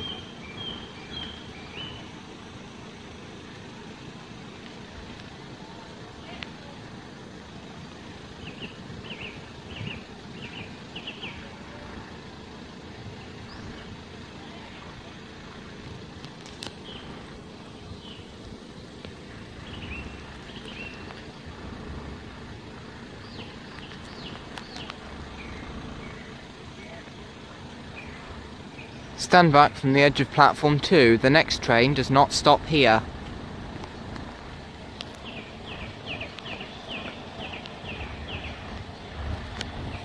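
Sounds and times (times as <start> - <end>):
low rumble of road traffic: 0.0 - 40.0
small birds chirping: 0.0 - 40.0.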